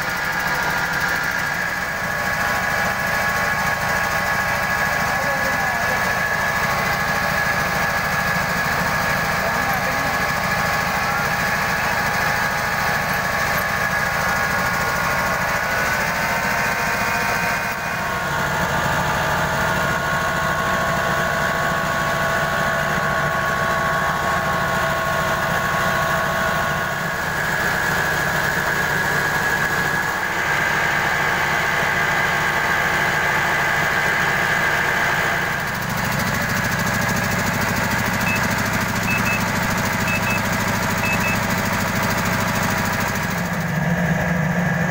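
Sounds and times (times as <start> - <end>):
milling machine whine: 0.0 - 21.0, 22.9 - 43.7
small diesel engine rumbling: 0.0 - 44.9.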